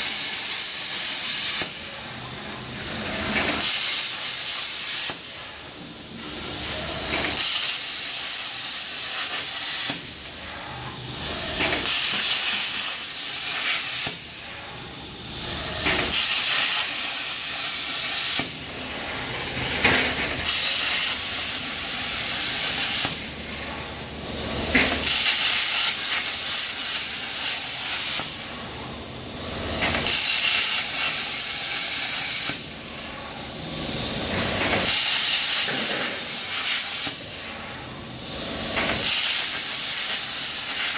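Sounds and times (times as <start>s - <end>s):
plasma arc hissing: 0.0s - 28.8s, 29.5s - 40.9s.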